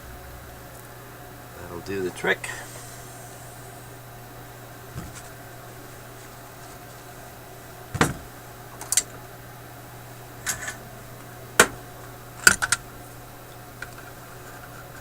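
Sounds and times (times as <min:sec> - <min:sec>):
low hum: 0:00.0 - 0:14.4.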